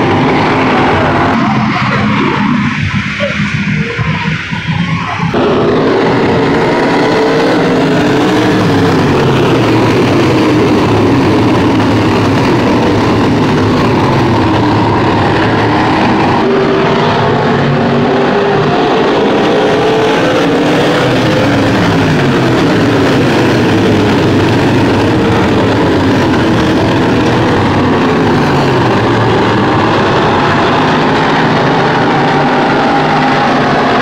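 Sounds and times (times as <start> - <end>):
race car engines: 0.0 - 34.0.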